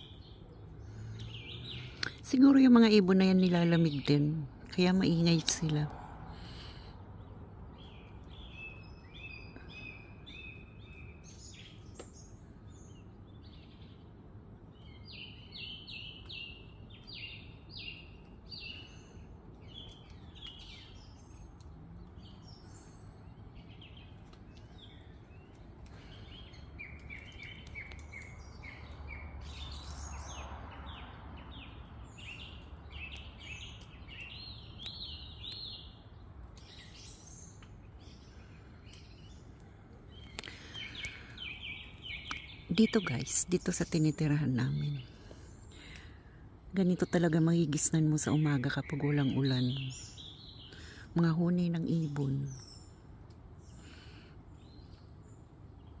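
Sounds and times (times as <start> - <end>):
faint outdoor hum: 0.0 - 56.0
small birds chirping: 0.0 - 56.0.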